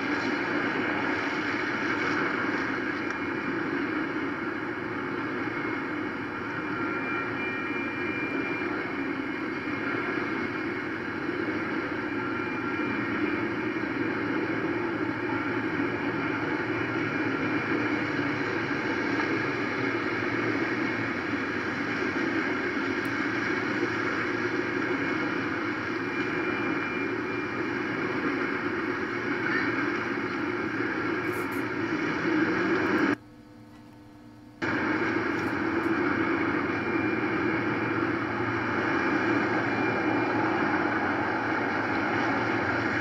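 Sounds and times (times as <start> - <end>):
freight train cars rumbling: 0.0 - 33.2, 34.6 - 43.0.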